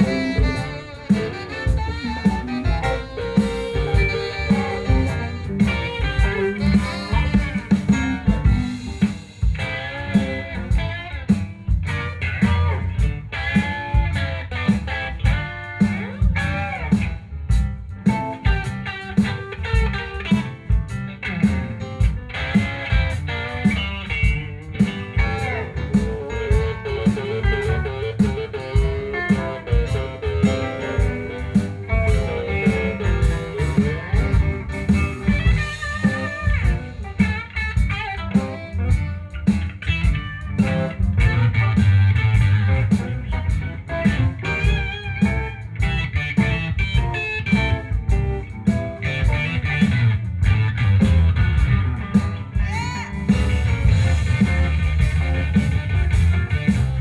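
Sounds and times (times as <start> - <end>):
electric guitar: 0.0 - 57.0
live blues band playing: 0.0 - 57.0.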